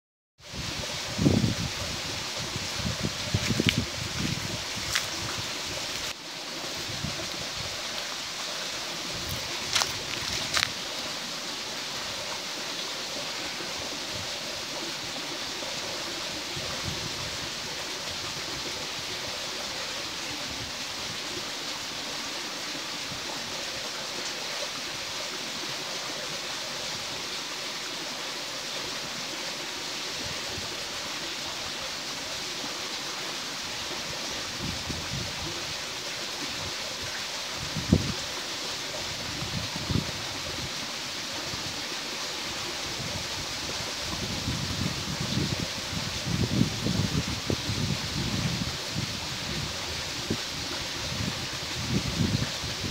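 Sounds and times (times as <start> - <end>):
waterfall rushing: 0.4 - 52.9.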